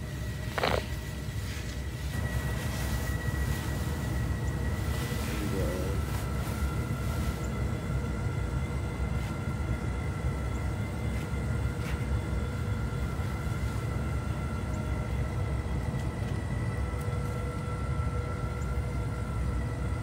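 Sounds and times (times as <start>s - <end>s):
faint high whine: 0.0s - 20.0s
motor low rumble: 0.0s - 20.0s.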